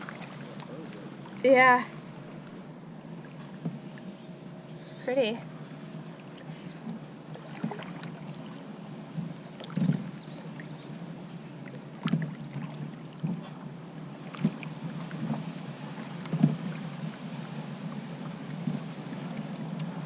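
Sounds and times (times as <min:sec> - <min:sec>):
paddle strokes in water: 0:00.0 - 0:04.2, 0:05.6 - 0:20.0.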